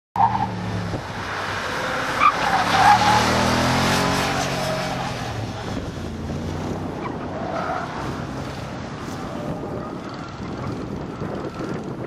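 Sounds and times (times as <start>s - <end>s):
car engine running hard: 0.4s - 12.0s.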